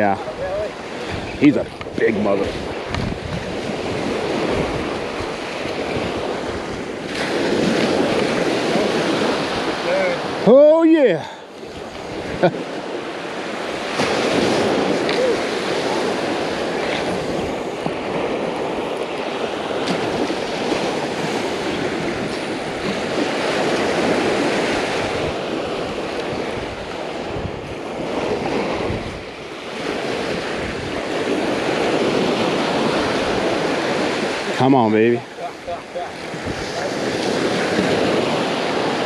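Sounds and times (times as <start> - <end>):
ocean surf breaking on beach: 0.0 - 39.0.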